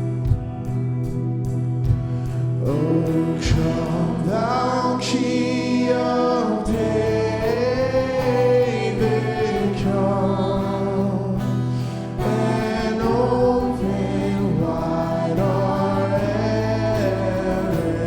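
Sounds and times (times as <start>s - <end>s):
strummed guitar: 0.0s - 18.0s
voices singing long notes: 2.6s - 18.0s.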